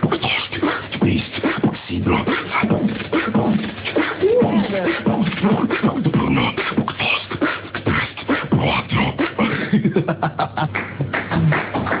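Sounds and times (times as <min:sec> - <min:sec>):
person beatboxing: 0:00.0 - 0:10.1, 0:10.7 - 0:12.0.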